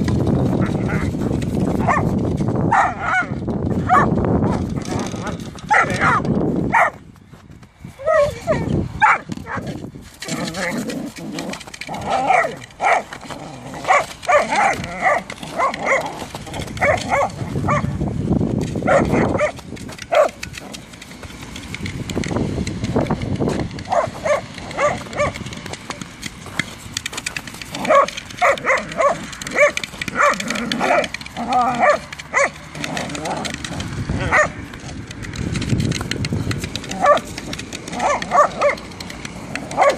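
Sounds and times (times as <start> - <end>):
dogs play barking: 0.0 - 7.0, 8.0 - 21.9, 23.4 - 36.0, 36.6 - 39.9.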